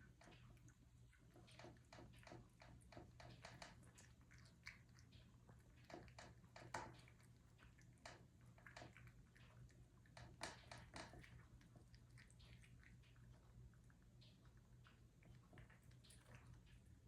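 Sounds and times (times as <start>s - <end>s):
cat chewing food: 0.0s - 17.0s.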